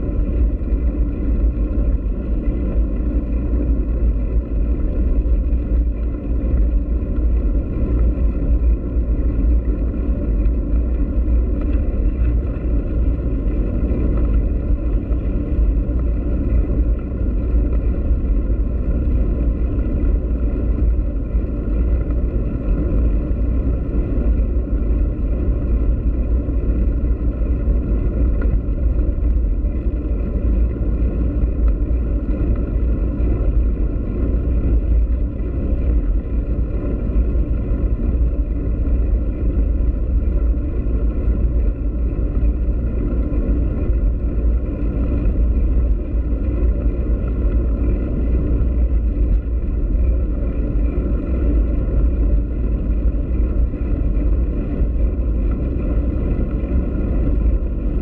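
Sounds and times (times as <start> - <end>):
bicycle tyres rolling on bricks: 0.0 - 58.0.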